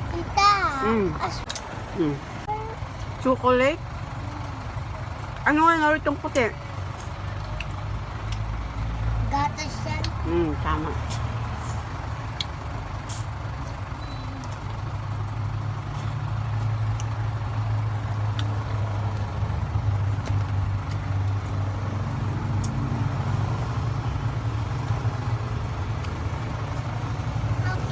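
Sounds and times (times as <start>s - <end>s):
low motor rumble: 0.0s - 27.9s.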